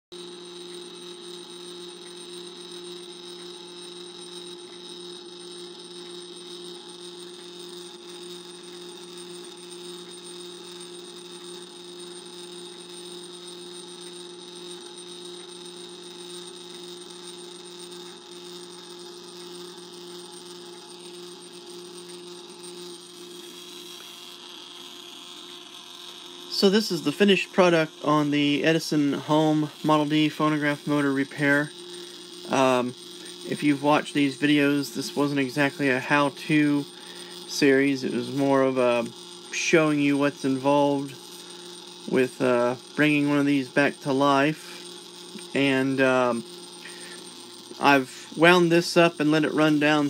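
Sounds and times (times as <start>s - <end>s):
clockwork motor whirring: 0.1s - 50.0s.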